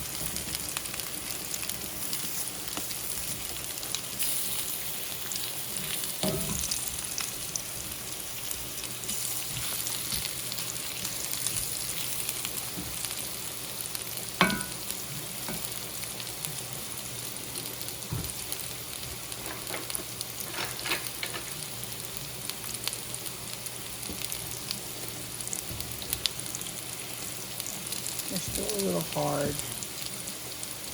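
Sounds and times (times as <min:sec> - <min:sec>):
beets sizzling in a frying pan: 0:00.0 - 0:30.9.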